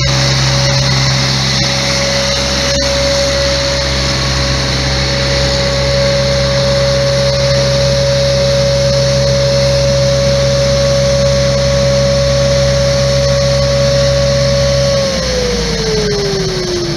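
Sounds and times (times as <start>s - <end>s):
blower high whine: 0.0s - 16.9s
truck engine drone: 0.0s - 16.9s.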